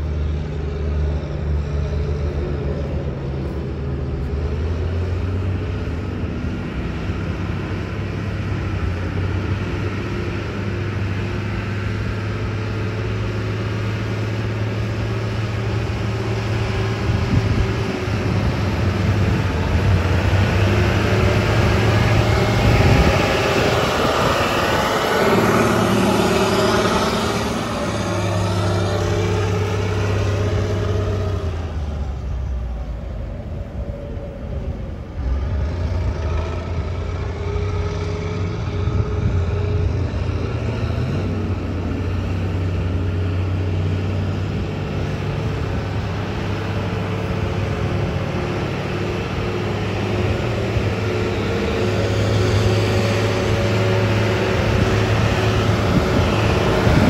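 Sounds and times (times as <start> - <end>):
dump truck diesel engine: 0.0 - 57.0.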